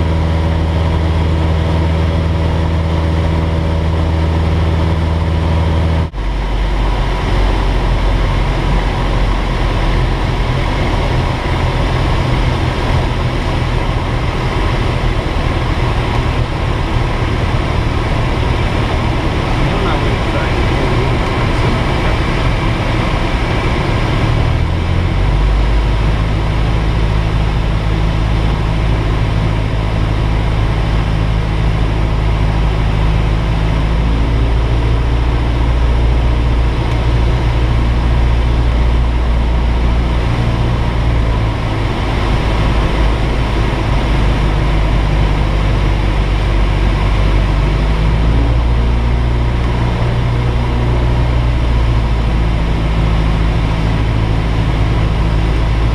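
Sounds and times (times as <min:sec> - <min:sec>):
light aircraft engine droning: 0:00.0 - 0:55.9
rushing airflow: 0:02.9 - 0:55.9.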